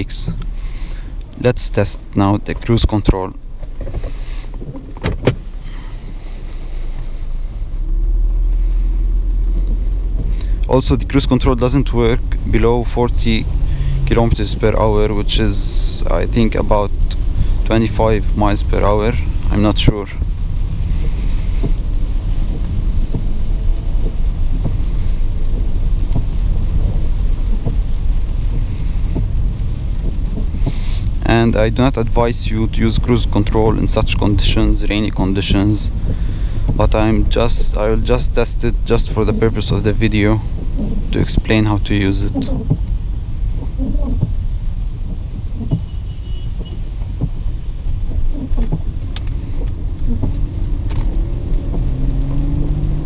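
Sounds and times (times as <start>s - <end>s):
car engine and tyre noise: 0.0s - 53.0s.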